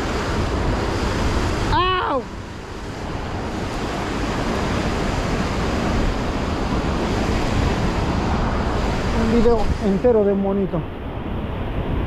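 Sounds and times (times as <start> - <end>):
surf breaking on rocks: 0.0 - 12.0.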